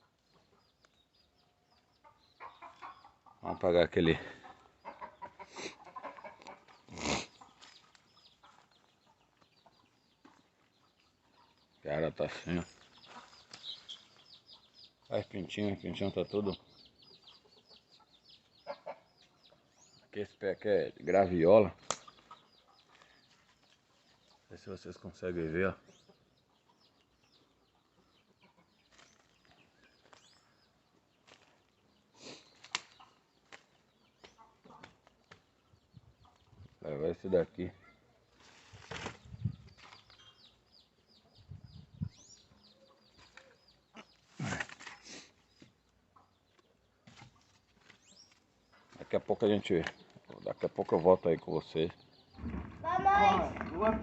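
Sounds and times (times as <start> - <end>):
chicks peeping: 0.0 - 20.2, 21.4 - 38.4, 39.0 - 54.0
chickens clucking: 0.0 - 54.0.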